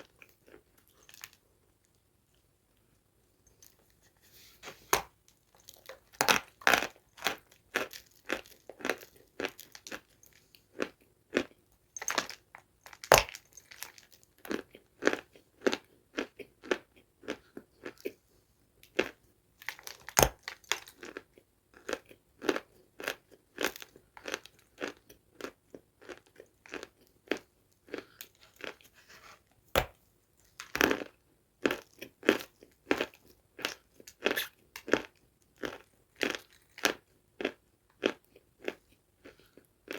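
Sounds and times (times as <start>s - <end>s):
person chewing crunchy food: 0.0s - 2.4s, 4.7s - 39.9s.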